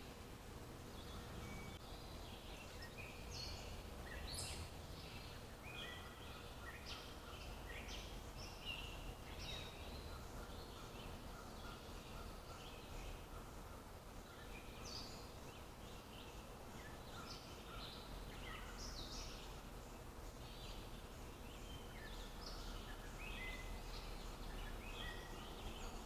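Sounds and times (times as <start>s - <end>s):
birds calling and chirping: 0.9s - 26.0s.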